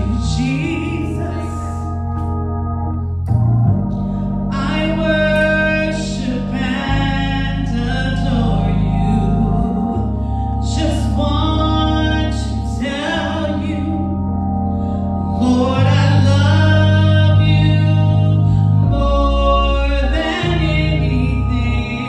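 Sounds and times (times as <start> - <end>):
woman singing gospel: 0.0 - 2.0, 4.5 - 14.2, 15.4 - 22.0
sustained organ chords: 0.0 - 22.0.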